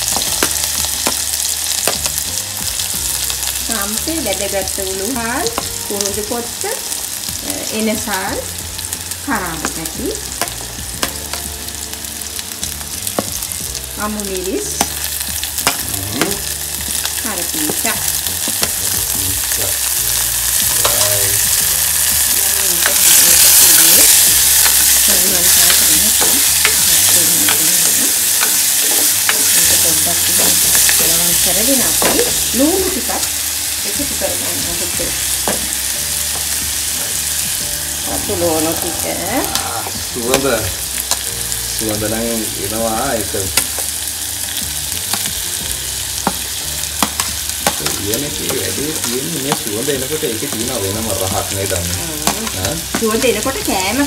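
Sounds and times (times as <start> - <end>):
spices sizzling in hot oil: 0.0 - 54.0.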